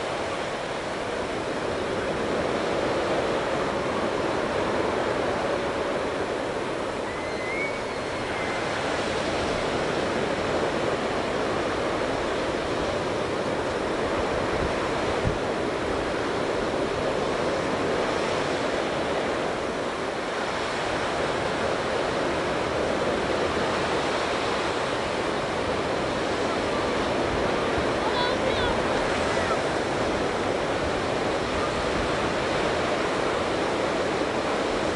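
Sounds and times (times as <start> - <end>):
surf breaking on beach: 0.0 - 34.9
wind on microphone: 0.0 - 34.9.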